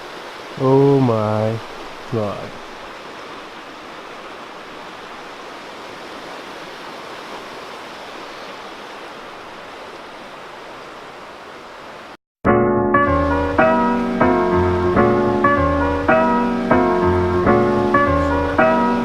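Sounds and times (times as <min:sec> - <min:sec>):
water rushing: 0:00.0 - 0:12.2, 0:13.0 - 0:19.0.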